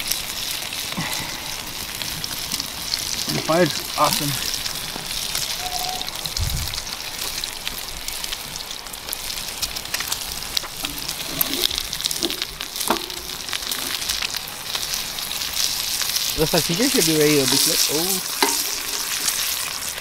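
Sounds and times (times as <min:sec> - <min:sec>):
fat crackling and popping: 0:00.0 - 0:20.0
meat sizzling over a fire: 0:00.0 - 0:20.0.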